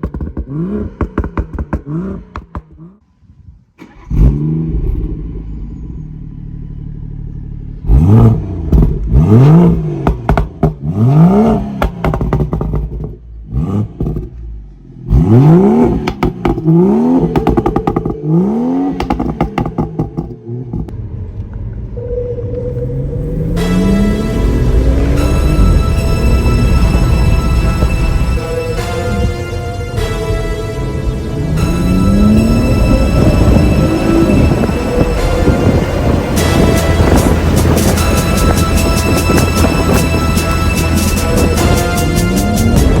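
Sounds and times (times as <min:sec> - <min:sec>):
exhaust crackling and popping: 0:00.0 - 0:03.1, 0:07.0 - 0:30.0, 0:31.2 - 0:43.0
car engine revving: 0:00.0 - 0:43.0.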